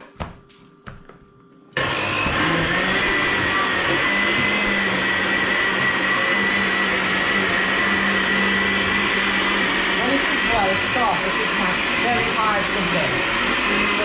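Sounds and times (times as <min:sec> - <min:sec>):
blender motor whining: 0:01.8 - 0:14.0.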